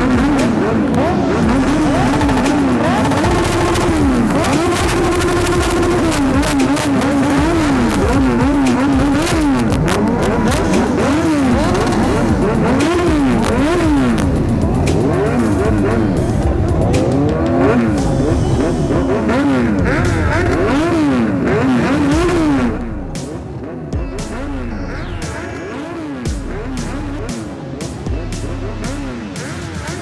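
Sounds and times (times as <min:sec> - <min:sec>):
exhaust cracks: 0:00.0 - 0:30.0
superbike engines revving: 0:00.0 - 0:30.0.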